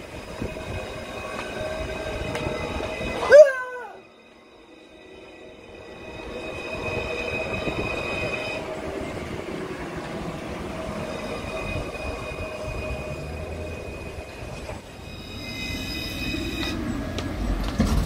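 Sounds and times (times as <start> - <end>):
high tram whine: 0.0 - 18.0
tram wheels rumbling on rail: 0.0 - 18.0.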